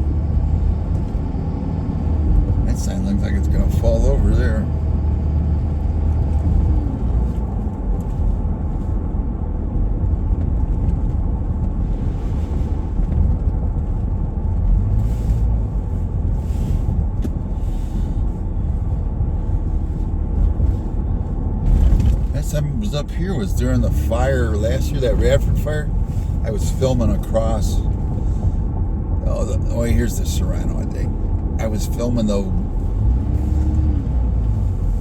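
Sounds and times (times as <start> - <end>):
engine and road rumble in cabin: 0.0 - 35.0.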